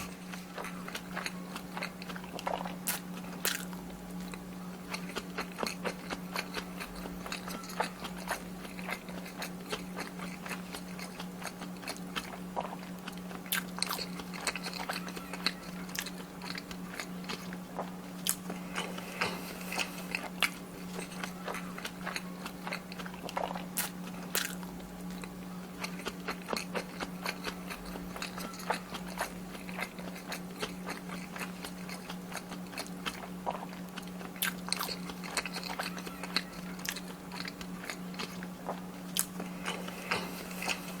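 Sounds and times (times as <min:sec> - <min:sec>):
crunchy chewing: 0:00.0 - 0:41.0
steady low hum: 0:00.0 - 0:41.0.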